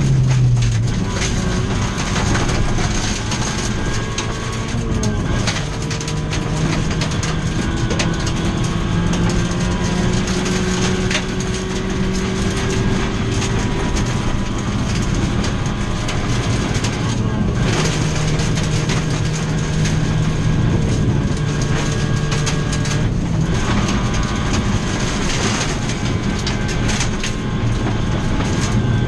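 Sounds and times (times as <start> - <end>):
gravel rattling against car: 0.0 - 29.0
rally car engine under load: 0.0 - 29.0.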